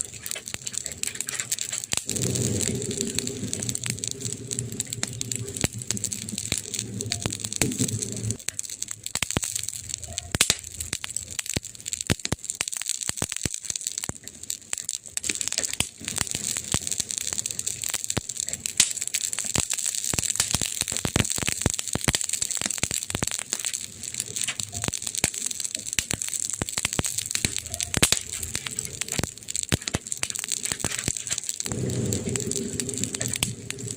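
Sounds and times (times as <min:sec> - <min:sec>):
fire crackling: 0:00.0 - 0:33.9.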